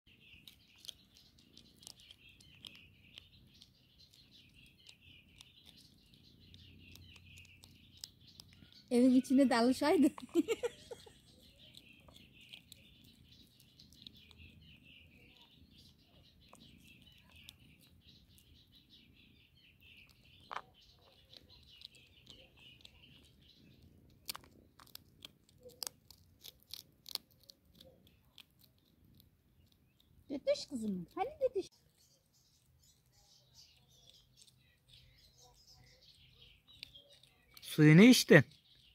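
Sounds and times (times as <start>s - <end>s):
birds chirping: 0.1s - 38.9s
hedgehog crunching kibble: 0.1s - 38.9s.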